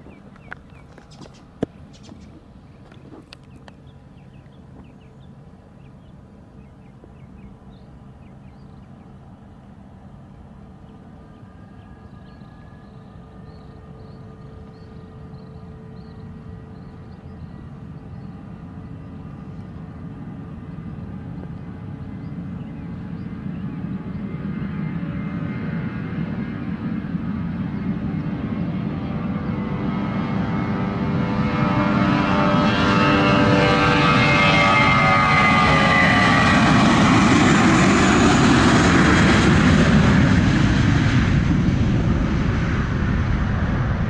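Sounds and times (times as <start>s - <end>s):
jet engines at takeoff: 0.0s - 44.0s.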